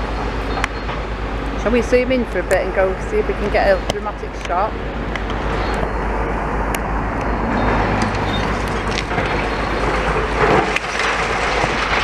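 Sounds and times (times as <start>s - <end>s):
heavy demolition machinery: 0.0s - 12.0s
road traffic rumble: 0.0s - 12.0s.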